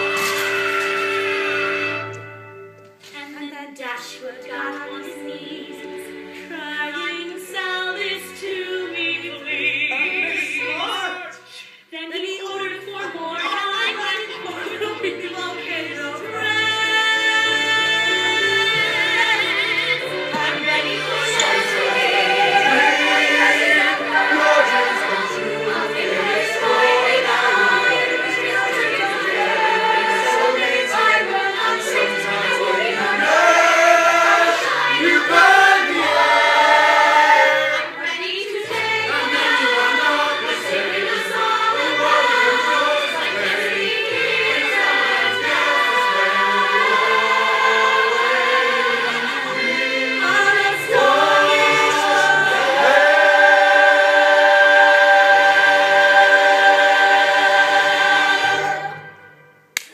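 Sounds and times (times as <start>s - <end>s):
choir singing: 4.7s - 11.6s, 12.7s - 59.9s.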